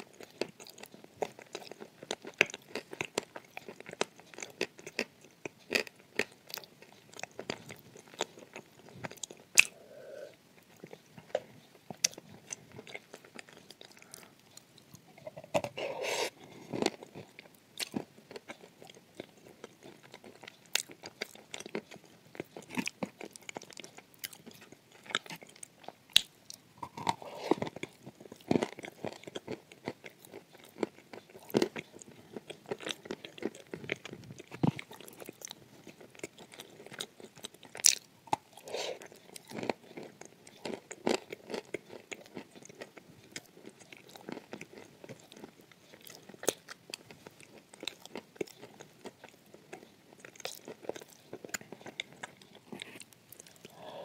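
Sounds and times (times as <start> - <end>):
person chewing crunchy clay: 0.0 - 54.0.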